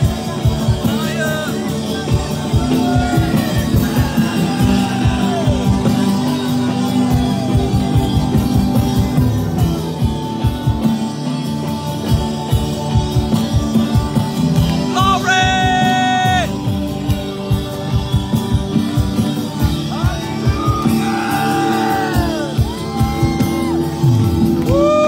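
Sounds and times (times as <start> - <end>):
live band music: 0.0 - 25.0.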